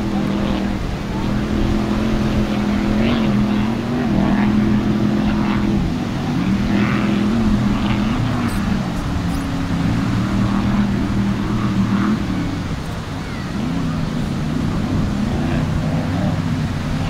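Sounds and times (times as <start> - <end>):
powerboat engines droning: 0.0 - 17.0.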